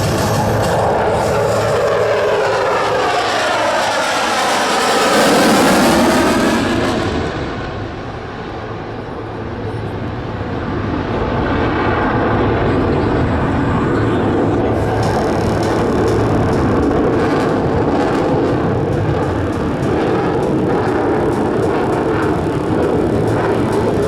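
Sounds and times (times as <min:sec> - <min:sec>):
jet passing overhead: 0:00.0 - 0:24.0
low jet rumble: 0:00.0 - 0:24.0.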